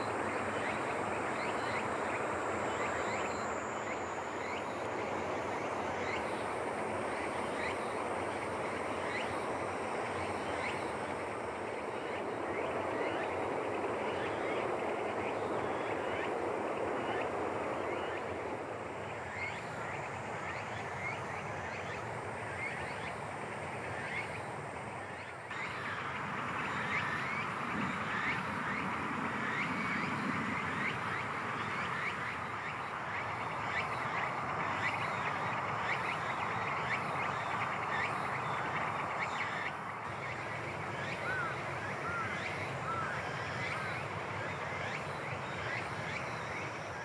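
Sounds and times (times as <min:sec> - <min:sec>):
steady rushing background: 0:00.0 - 0:47.0.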